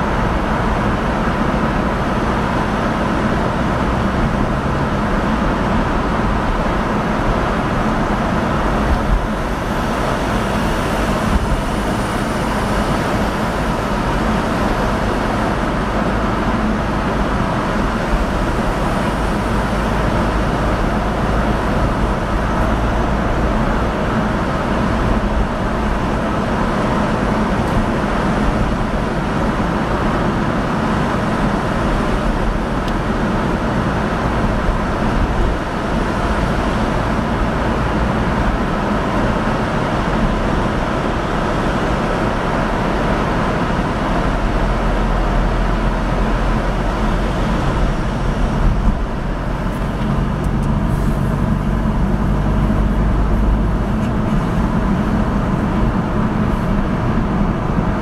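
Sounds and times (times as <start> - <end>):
car road and engine noise: 0.0 - 58.0
tunnel road hiss: 0.0 - 58.0.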